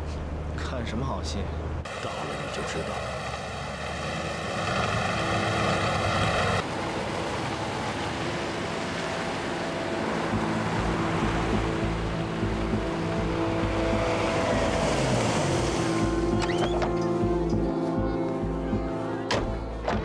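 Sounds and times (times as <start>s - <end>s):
road noise: 0.0s - 20.0s
car engine droning: 1.6s - 17.8s.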